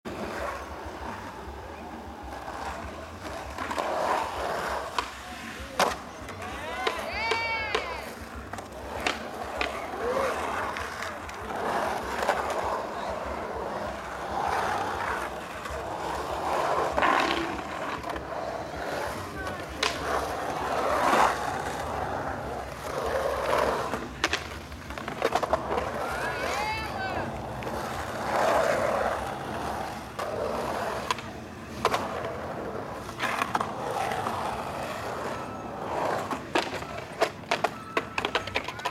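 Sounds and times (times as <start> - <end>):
skateboard clacking on concrete: 0.0 - 38.9
skateboard wheels rolling on concrete: 0.0 - 38.9.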